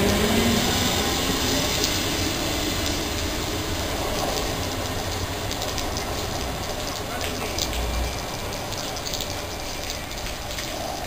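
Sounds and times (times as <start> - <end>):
train rumbling away on track: 0.0 - 11.0.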